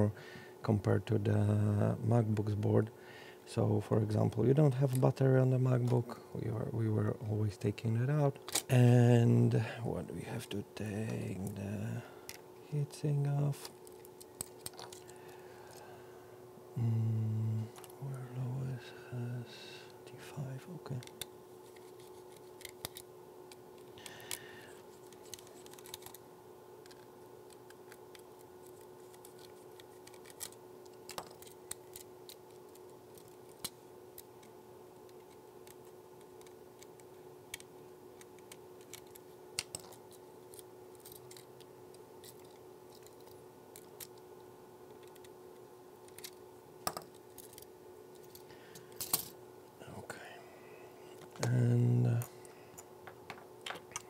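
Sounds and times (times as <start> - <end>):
faint hum: 0.0 - 54.0.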